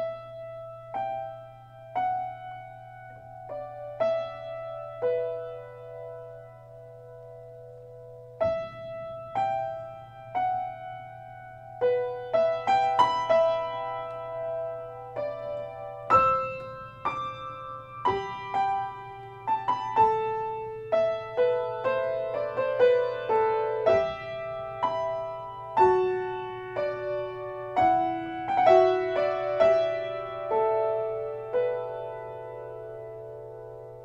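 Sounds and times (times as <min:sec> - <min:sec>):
slow solo piano melody: 0:00.0 - 0:34.0.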